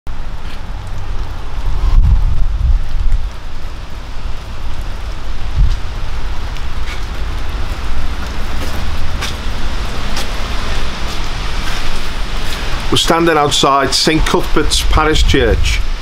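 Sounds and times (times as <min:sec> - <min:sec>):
rain: 0:00.1 - 0:16.0
wind on microphone: 0:01.0 - 0:03.8, 0:04.6 - 0:12.9, 0:14.2 - 0:16.0.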